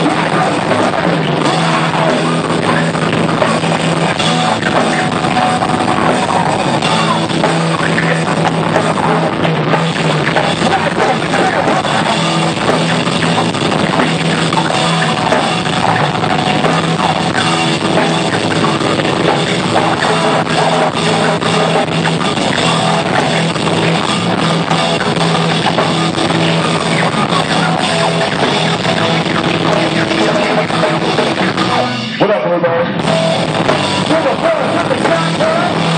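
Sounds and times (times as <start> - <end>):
drum kit: 0.0 - 32.4, 33.0 - 35.9
electric guitar: 0.0 - 35.9
live rock band playing: 0.0 - 35.9.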